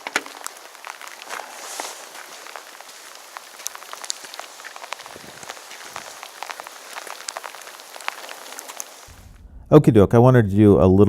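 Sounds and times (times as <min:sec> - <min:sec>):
raindrops ticking on a surface: 0:00.0 - 0:09.2
rain falling: 0:00.0 - 0:09.3.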